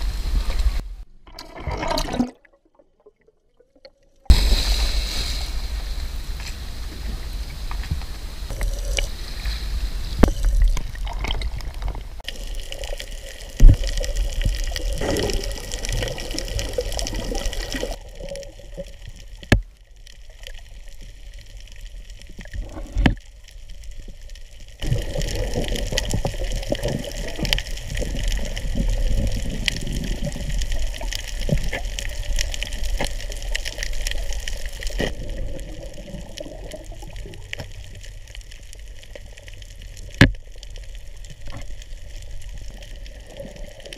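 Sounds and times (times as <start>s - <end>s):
water splashing and sloshing: 0.0s - 43.9s.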